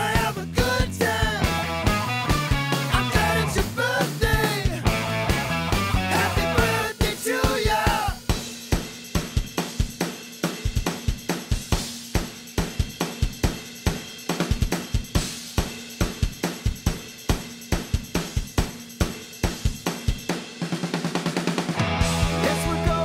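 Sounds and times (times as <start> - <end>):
drum kit playing rock beat: 0.0 - 23.0.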